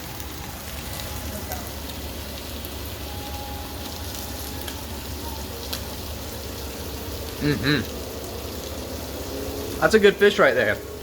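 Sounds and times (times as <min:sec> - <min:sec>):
fish sizzling in a pan: 0:00.0 - 0:11.0
oil popping: 0:00.0 - 0:11.0.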